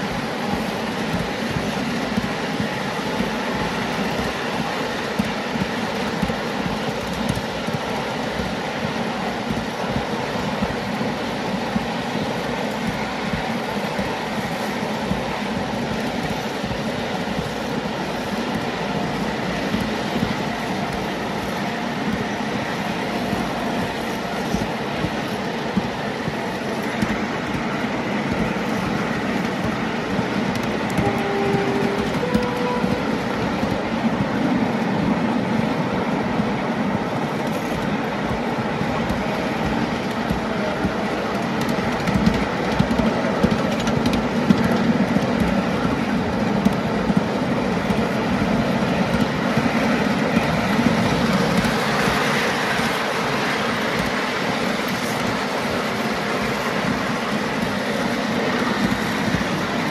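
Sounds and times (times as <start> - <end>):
clickety-clack over rail joints: 0.0 - 59.9
rumble of wheels on rail: 0.0 - 59.9.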